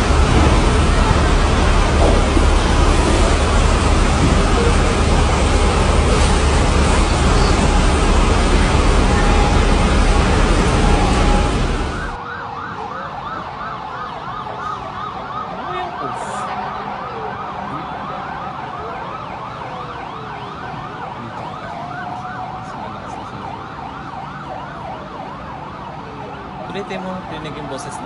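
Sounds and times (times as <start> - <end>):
loud rush of noise: 0.0 - 24.3
sirens wailing: 0.0 - 28.0
sirens yelping: 0.0 - 28.0.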